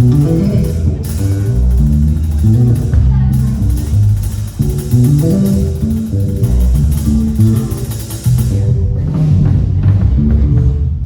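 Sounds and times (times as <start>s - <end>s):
guitar chords: 0.0s - 10.5s
bass guitar: 0.0s - 11.0s
drum kit: 0.0s - 11.0s.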